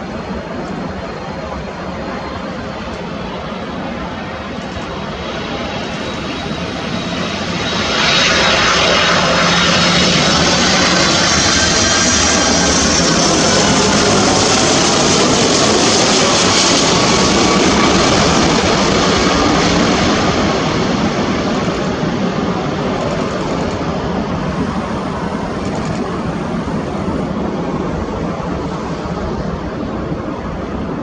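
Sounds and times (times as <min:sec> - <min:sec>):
jet engines roaring with turbine whine: 0:00.0 - 0:31.0.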